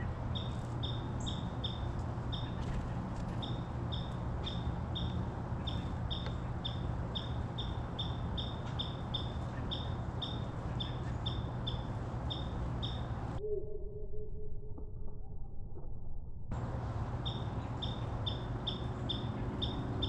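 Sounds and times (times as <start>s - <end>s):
outdoor background rush: 0.0s - 13.4s, 16.5s - 20.0s.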